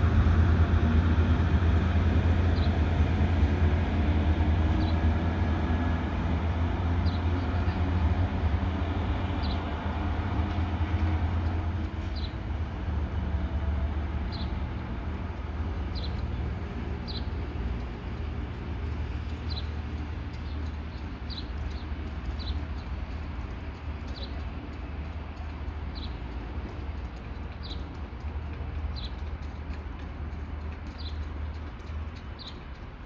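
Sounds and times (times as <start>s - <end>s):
diesel train engine rumbling: 0.0s - 33.0s.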